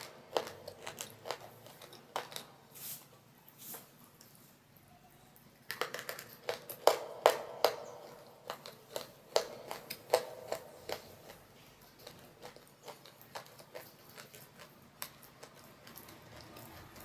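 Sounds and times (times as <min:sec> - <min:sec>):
baked clay crunching: 0:00.0 - 0:04.6, 0:05.6 - 0:17.0.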